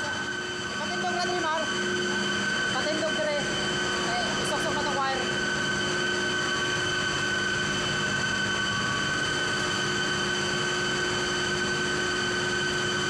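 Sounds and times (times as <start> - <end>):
high motor whine: 0.0 - 13.0
machinery drone: 0.0 - 13.0.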